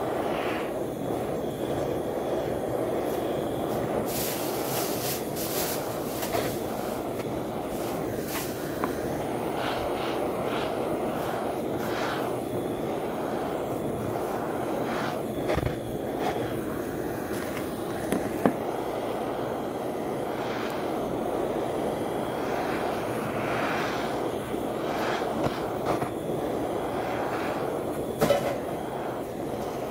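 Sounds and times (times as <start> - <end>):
butane torch flame: 0.0 - 29.9.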